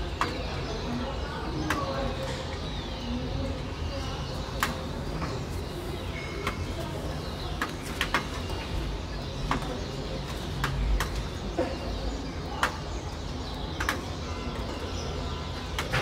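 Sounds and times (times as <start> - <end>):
city traffic rumble: 0.0 - 16.0
starlings whistling and chattering: 0.0 - 16.0.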